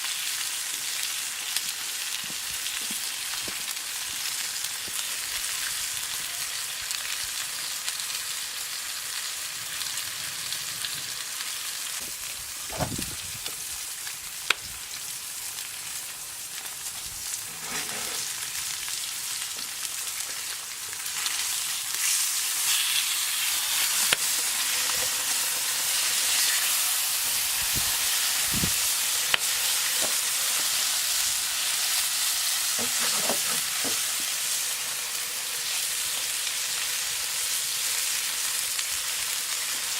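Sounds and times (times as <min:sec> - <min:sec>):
bacon and eggs sizzling: 0:00.0 - 0:39.9.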